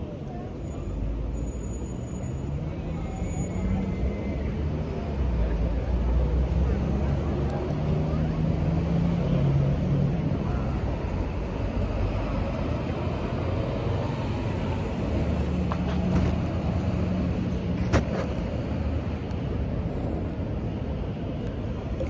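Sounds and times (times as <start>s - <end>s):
road traffic rumble: 0.0s - 22.0s
vehicle engine hum: 0.0s - 22.0s.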